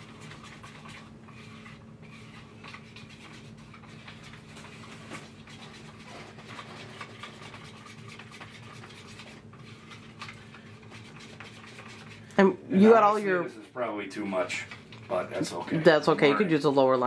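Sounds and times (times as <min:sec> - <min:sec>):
stirrer scraping a mixing cup: 0:00.0 - 0:12.4, 0:14.3 - 0:17.0
steady low hum: 0:00.0 - 0:17.0.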